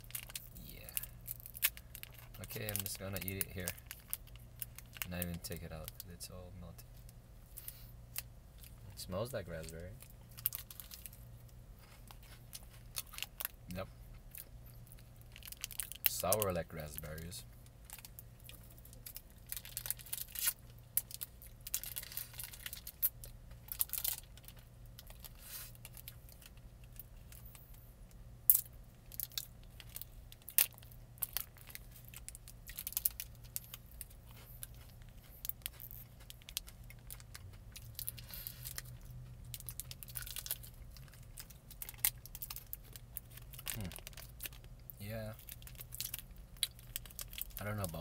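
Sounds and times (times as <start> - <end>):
plastic wrapper crinkling: 0.0 - 6.1, 9.6 - 11.2, 14.2 - 27.5, 28.5 - 48.0
faint low hum: 0.0 - 48.0.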